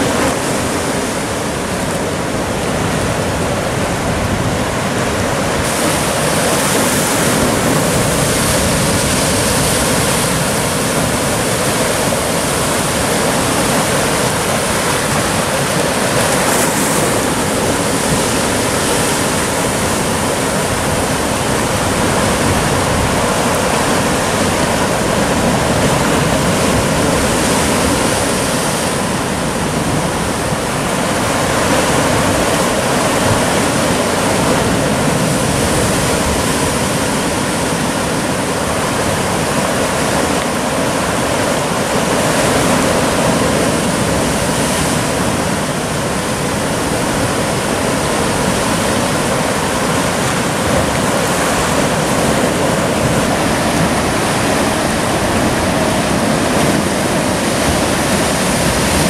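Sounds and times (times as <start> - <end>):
sea surf breaking over rocks: 0.0 - 59.0.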